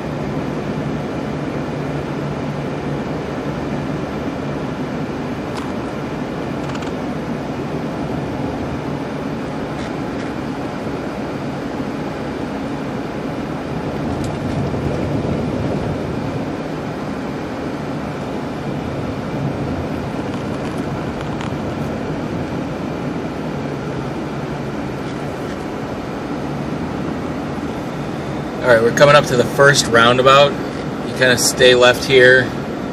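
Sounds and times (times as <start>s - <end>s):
car cabin road noise: 0.0s - 32.9s.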